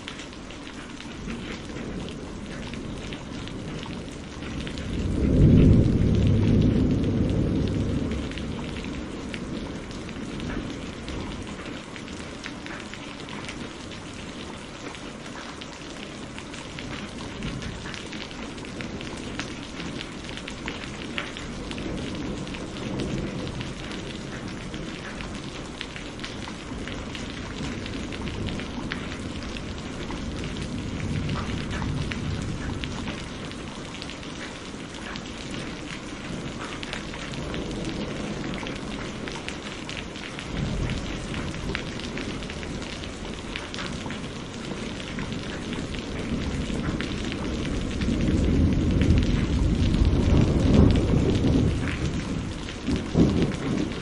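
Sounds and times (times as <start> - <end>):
heavy rain: 0.0 - 54.0
thunder rumbling: 1.2 - 12.4, 16.0 - 54.0.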